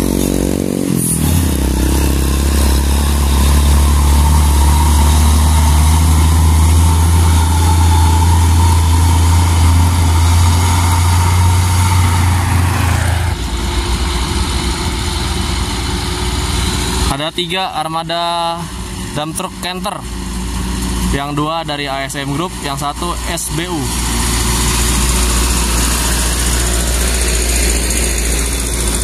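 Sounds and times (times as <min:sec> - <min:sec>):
diesel truck engine rumble: 0:00.0 - 0:29.0
engine whine: 0:00.0 - 0:29.0.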